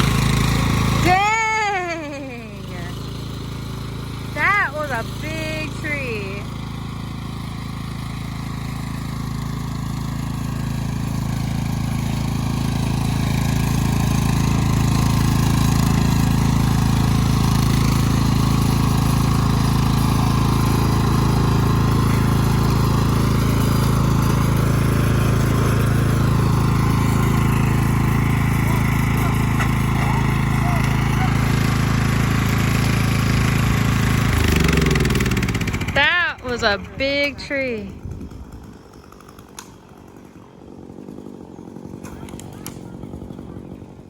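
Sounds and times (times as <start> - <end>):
tractor engine under load: 0.0 - 1.2, 2.4 - 43.9.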